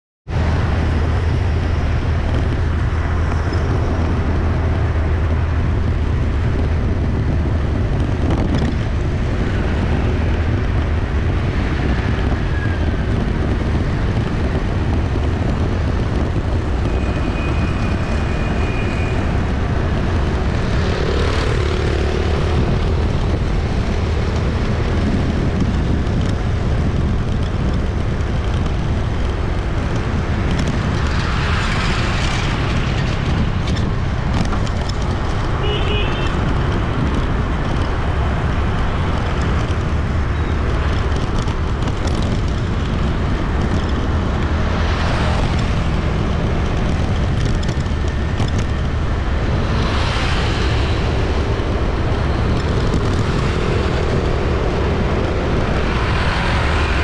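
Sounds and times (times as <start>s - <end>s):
passing traffic: 0.3s - 57.0s.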